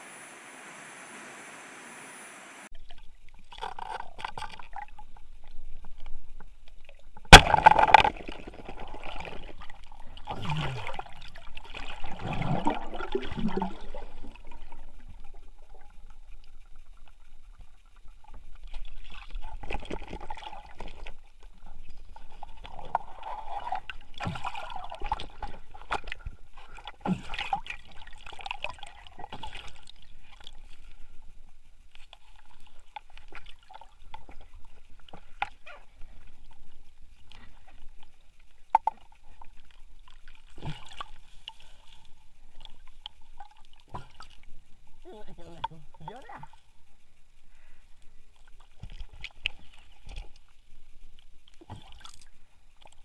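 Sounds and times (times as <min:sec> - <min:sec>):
water splashing and sloshing: 0:02.7 - 0:53.0.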